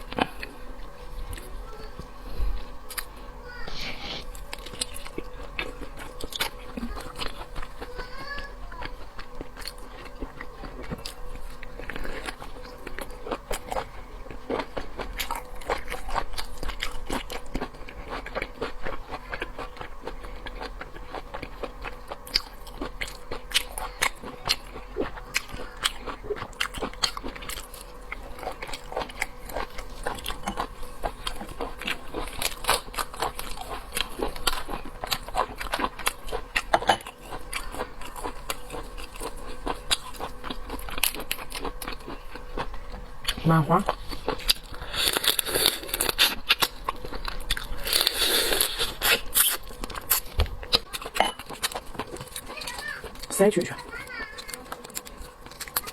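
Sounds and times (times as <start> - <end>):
person chewing and crunching food: 0.0 - 55.9.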